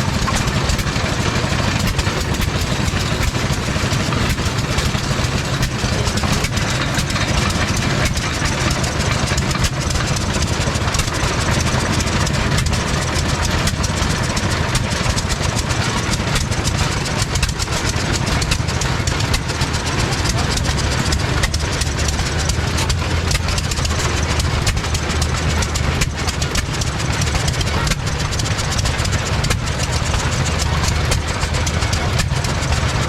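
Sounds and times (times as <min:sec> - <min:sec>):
engine idling: 0:00.0 - 0:33.0
faint engine knock: 0:00.0 - 0:33.0.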